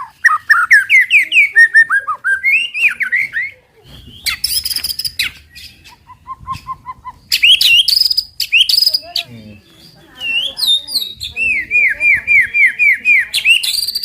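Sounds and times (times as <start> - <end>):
bird singing: 0.0 - 14.0.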